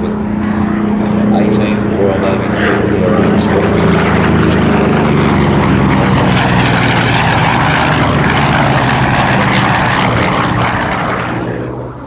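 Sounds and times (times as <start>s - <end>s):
propeller plane flying past: 0.0s - 12.0s
radial engine drone: 0.0s - 12.0s.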